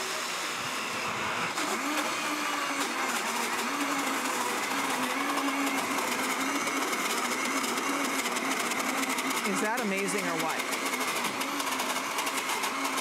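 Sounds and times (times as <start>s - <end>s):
blender grinding: 0.0s - 13.0s.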